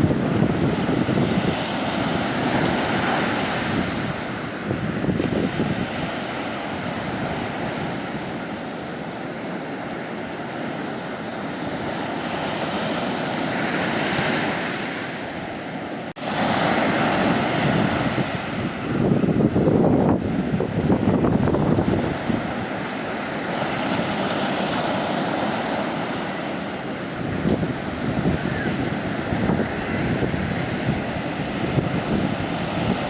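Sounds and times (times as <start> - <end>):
sea waves breaking on beach: 0.0 - 33.0.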